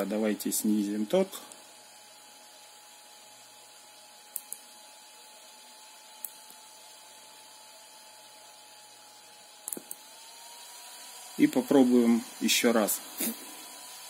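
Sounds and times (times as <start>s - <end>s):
small cooling fan humming: 0.0s - 14.0s.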